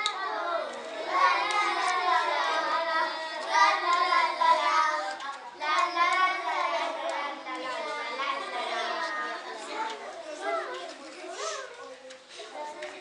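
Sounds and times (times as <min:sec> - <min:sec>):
young children singing: 0:00.0 - 0:13.0.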